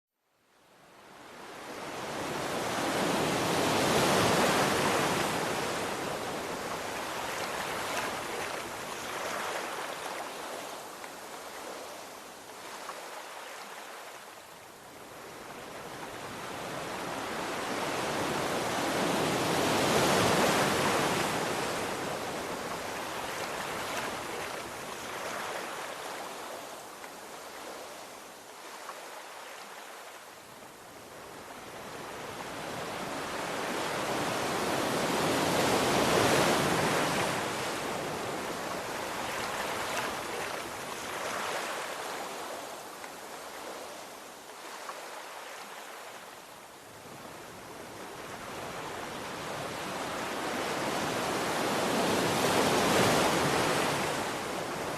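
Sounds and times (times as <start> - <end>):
ocean waves breaking on shore: 0.8 - 54.9.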